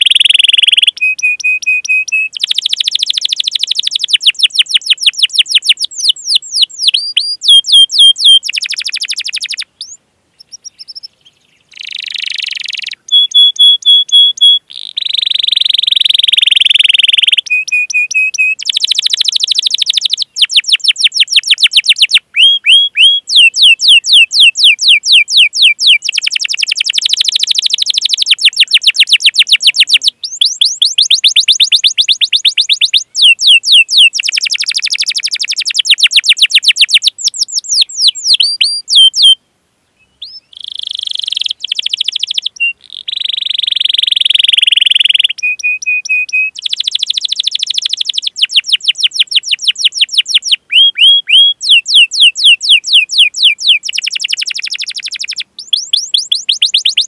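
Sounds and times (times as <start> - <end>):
canary singing: 0.0 - 39.4, 40.0 - 57.0.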